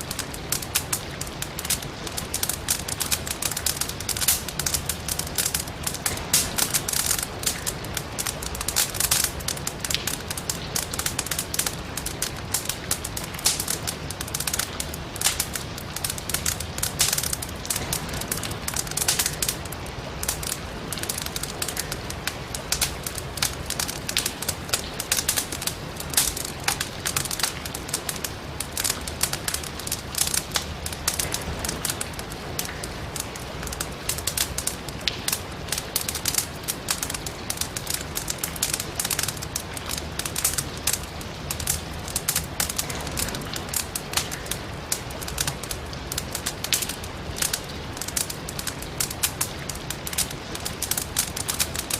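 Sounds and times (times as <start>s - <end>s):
firewood crackling and popping: 0.0s - 51.9s
rain hissing: 0.0s - 51.9s.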